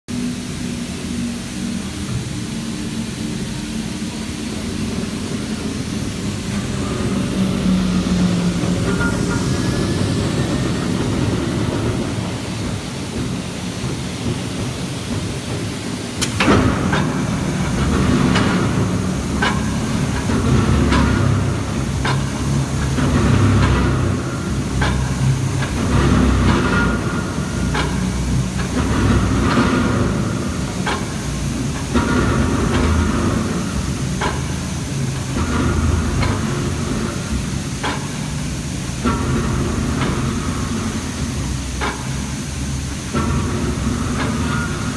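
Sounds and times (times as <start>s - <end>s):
forging press rumbling: 3.4s - 44.9s.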